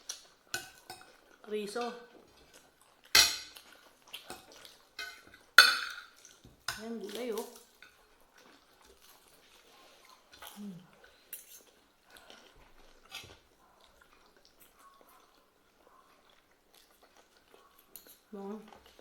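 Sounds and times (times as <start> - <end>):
faint chewing: 0.0 - 19.0.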